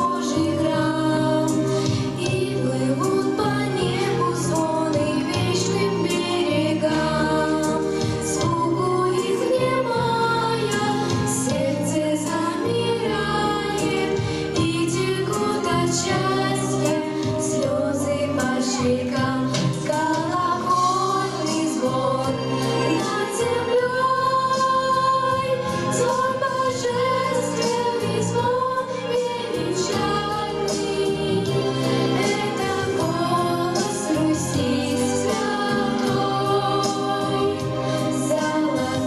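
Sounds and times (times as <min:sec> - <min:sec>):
instrumental accompaniment: 0:00.0 - 0:39.0
two women singing: 0:00.0 - 0:39.0.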